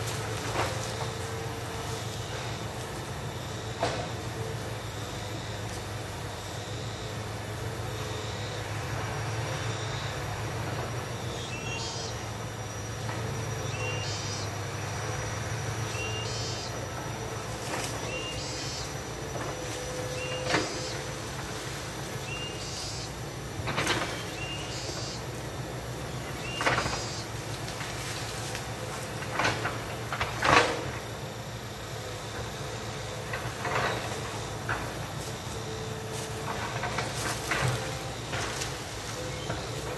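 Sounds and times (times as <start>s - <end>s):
distant excavator diesel engine: 0.0s - 39.9s.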